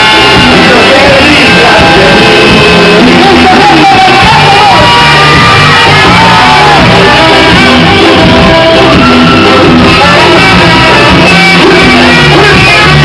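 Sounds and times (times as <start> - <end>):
singer shouting and singing: 0.0 - 13.0
ska band playing: 0.0 - 13.0.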